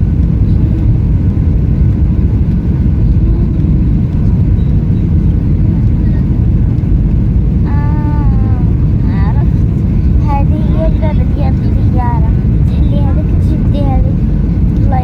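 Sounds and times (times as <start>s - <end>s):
airliner engine and airflow rumble: 0.0s - 15.0s.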